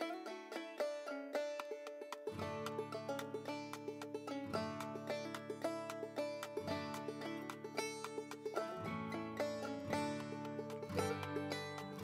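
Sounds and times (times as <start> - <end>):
instrumental picked string music: 0.0 - 12.0.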